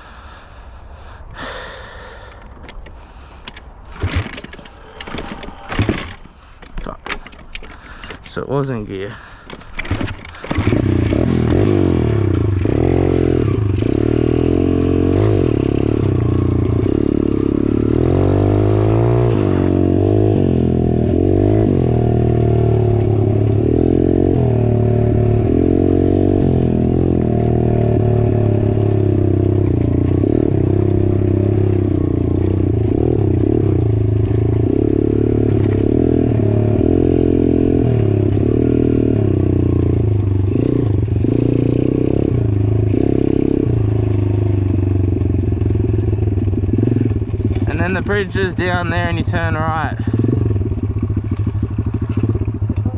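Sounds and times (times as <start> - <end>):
dirt bike engine revving: 8.9 - 52.9.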